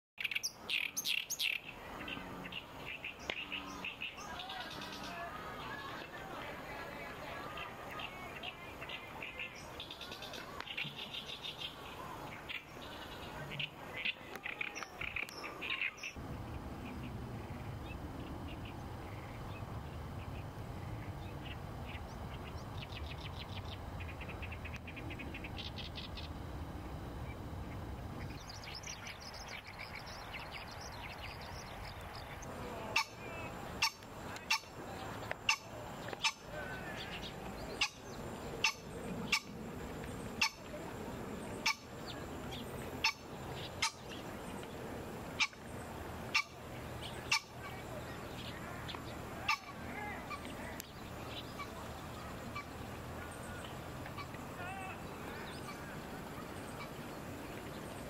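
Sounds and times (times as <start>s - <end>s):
small birds calling: 0.2s - 16.2s, 16.8s - 26.5s, 27.2s - 58.0s.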